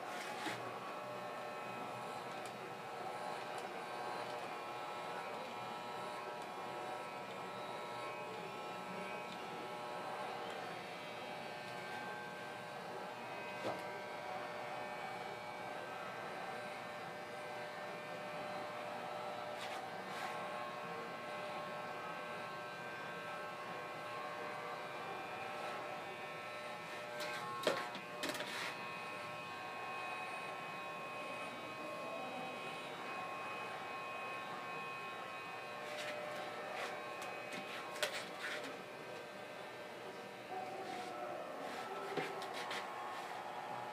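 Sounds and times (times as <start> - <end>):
electric hair clippers buzzing: 0.0 - 43.9.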